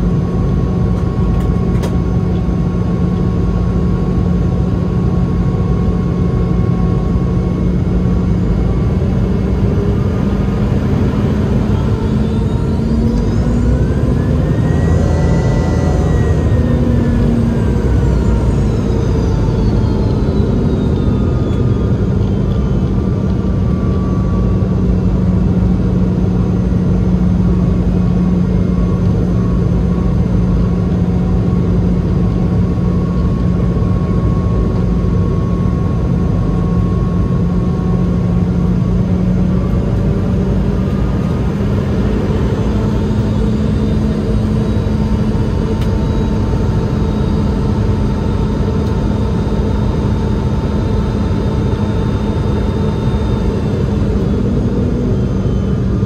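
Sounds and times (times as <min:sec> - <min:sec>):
jet engine roar in cabin: 0:00.0 - 0:56.0
low hum: 0:00.0 - 0:56.0.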